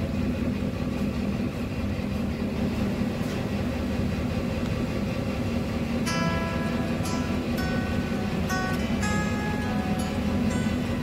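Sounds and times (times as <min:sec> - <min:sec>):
ship engine drone: 0:00.0 - 0:11.0
broad rushing noise: 0:00.9 - 0:11.0.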